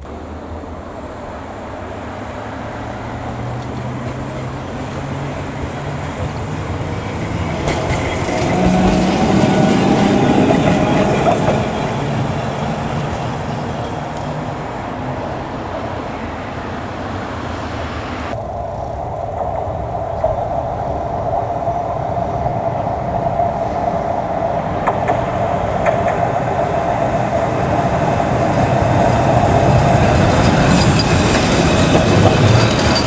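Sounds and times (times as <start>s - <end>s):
tram motor hum: 0.0s - 33.0s
tram wheels rumbling on rails: 0.0s - 33.0s.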